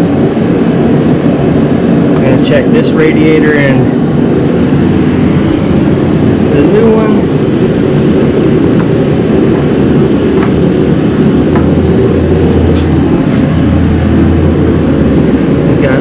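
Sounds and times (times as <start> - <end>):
loud machine drone: 0.0 - 16.0.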